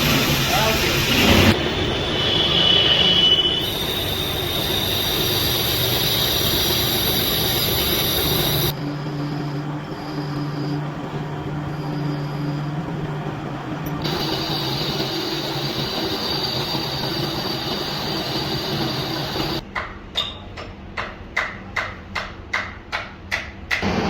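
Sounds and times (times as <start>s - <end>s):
high-pitched whine: 0.0s - 19.6s
metal lathe running: 0.0s - 19.6s.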